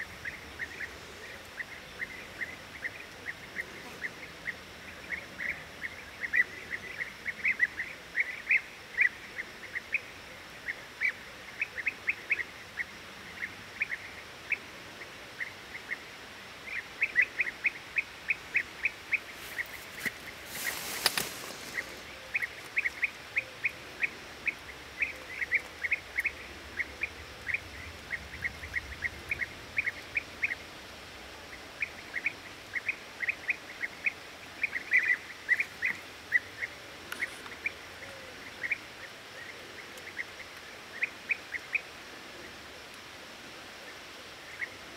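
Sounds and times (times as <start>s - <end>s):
birds calling: 0.0s - 42.6s.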